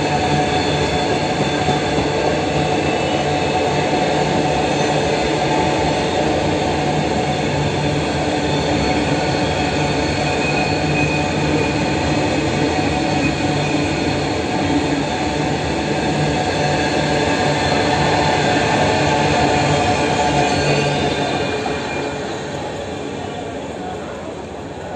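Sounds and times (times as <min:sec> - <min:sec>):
train wheels clattering on rails: 0:00.0 - 0:24.9.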